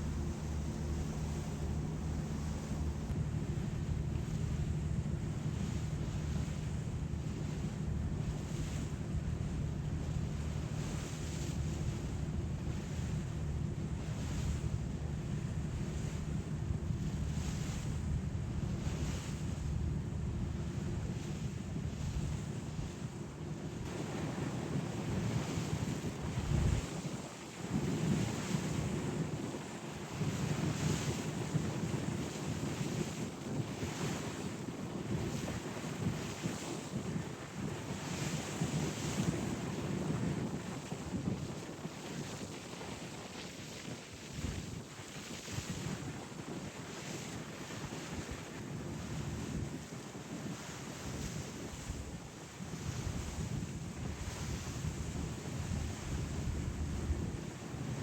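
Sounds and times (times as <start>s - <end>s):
water rushing along hull: 0.0s - 58.0s
wind on microphone: 0.0s - 58.0s.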